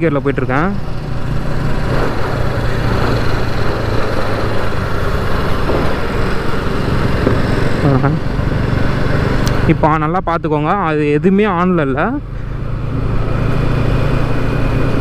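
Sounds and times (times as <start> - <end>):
motorcycle engine at low revs: 0.0 - 10.0, 11.4 - 15.0.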